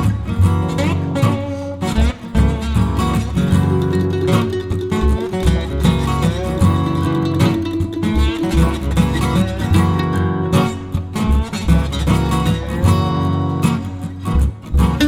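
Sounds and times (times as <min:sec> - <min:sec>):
guitar music over a beat: 0:00.0 - 0:15.0.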